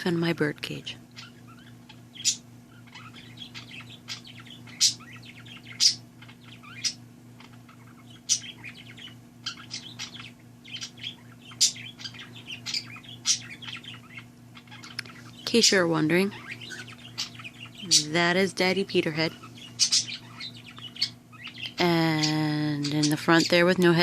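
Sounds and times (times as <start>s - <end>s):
steady low hum: 0.0s - 24.0s
birds twittering: 0.7s - 24.0s.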